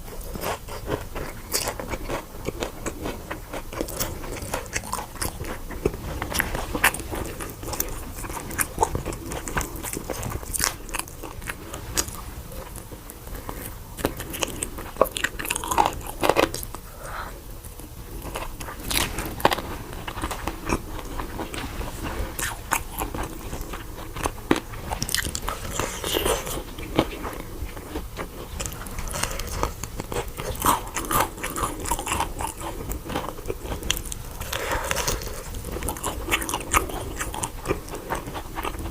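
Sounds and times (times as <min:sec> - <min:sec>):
person chewing crispy food: 0:00.0 - 0:38.9.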